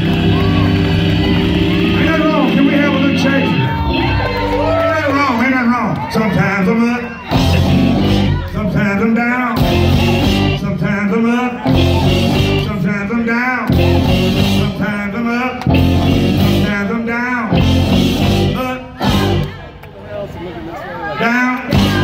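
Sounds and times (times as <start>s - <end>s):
live gospel blues band: 0.0s - 19.6s, 21.3s - 22.0s.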